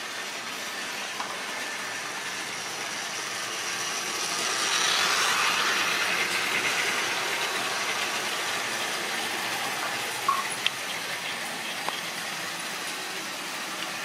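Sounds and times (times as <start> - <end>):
model train rattling whirr: 0.0 - 14.0.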